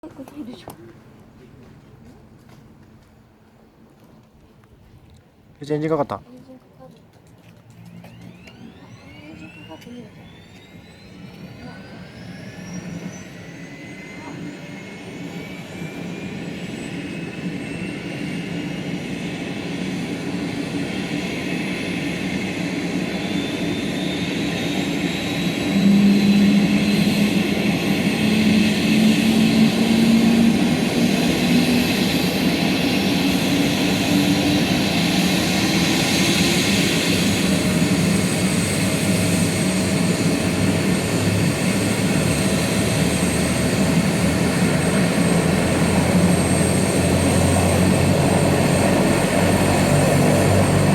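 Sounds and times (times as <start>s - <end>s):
helicopter turbine spooling up: 7.5s - 50.9s.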